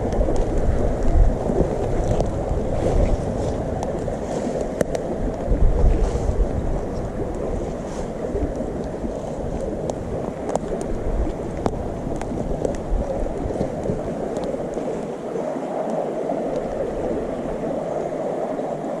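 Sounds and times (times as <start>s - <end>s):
flowing river water: 0.0s - 19.0s.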